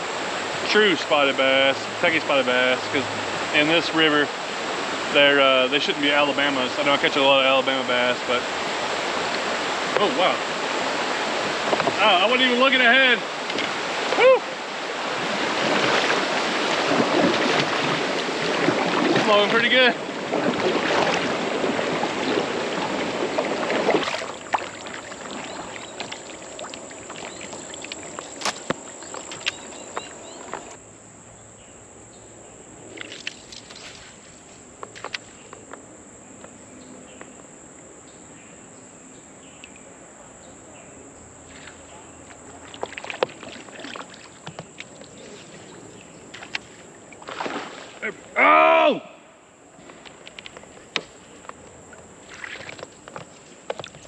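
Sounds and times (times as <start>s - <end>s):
water rushing around a kayak: 0.0s - 30.8s, 41.4s - 54.0s
insect drone: 0.0s - 54.0s.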